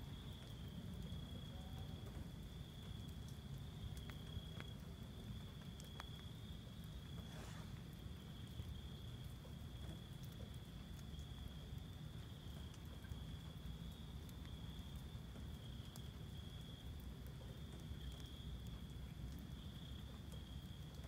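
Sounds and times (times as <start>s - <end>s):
raindrops pattering: 0.0s - 21.0s.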